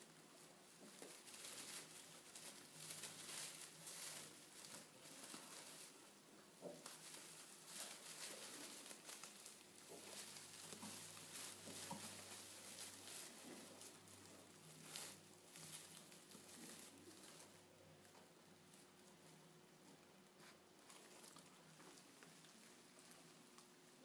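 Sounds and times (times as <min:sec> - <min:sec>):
faint rustling on straw: 0:00.0 - 0:24.0.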